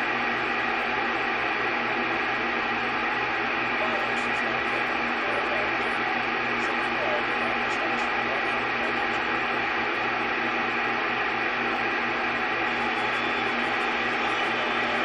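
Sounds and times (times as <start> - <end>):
hum: 0.0 - 15.0
radio static hiss: 0.0 - 15.0.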